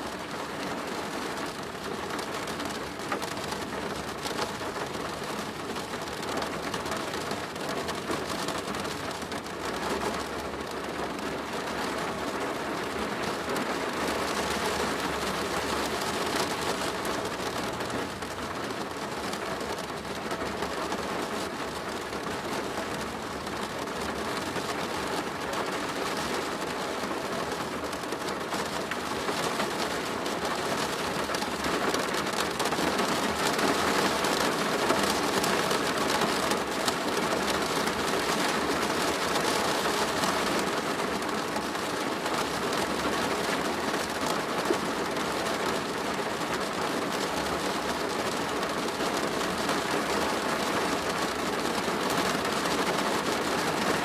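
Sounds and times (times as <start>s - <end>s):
rain drumming on plastic roof: 0.0s - 54.0s.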